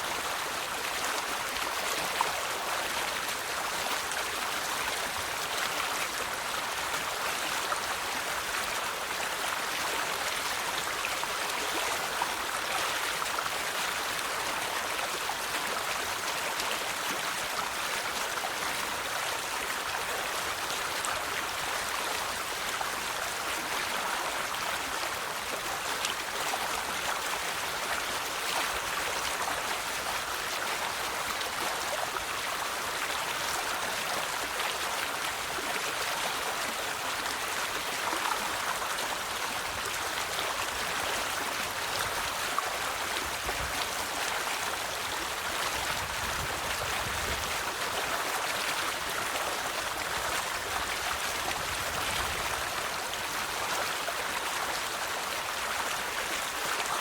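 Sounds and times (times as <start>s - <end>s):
river babbling over stones: 0.0s - 57.0s.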